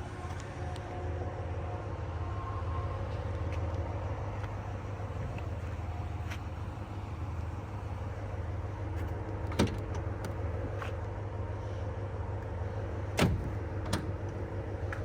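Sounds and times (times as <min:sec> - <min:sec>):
engine and road noise drone: 0:00.0 - 0:15.0.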